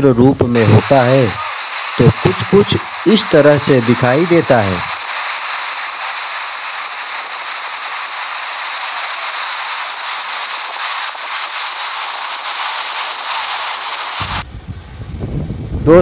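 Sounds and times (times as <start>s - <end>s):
waterfall rushing: 0.6s - 14.4s.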